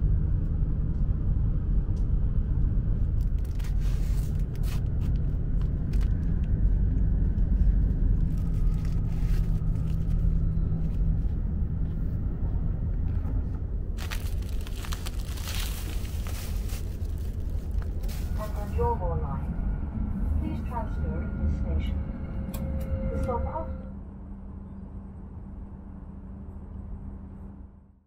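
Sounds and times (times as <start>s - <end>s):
steady hum: 0.0s - 27.9s
train low rumble: 0.0s - 28.0s.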